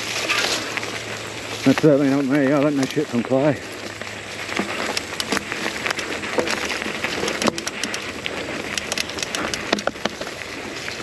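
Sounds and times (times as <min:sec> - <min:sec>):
bike clicks and rattles: 0:00.0 - 0:11.0
knobby tyres on dirt: 0:00.0 - 0:11.0.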